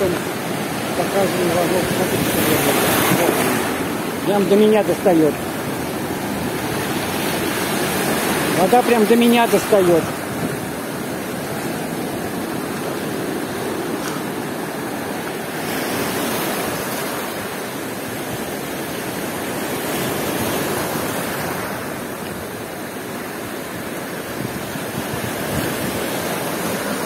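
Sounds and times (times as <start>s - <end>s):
waves breaking over stones: 0.0s - 27.0s.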